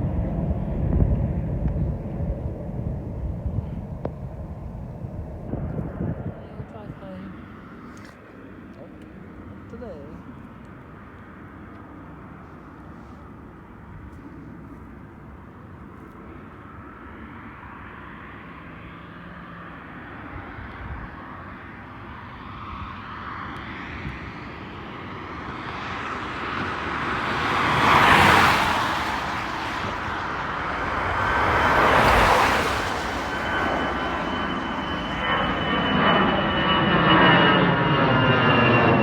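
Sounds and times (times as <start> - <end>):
jet airliner engine roar: 0.0 - 39.0.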